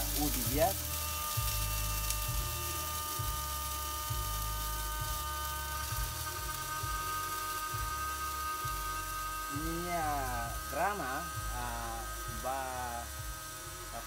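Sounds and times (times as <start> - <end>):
coffee grinder motor whine: 0.0 - 14.0.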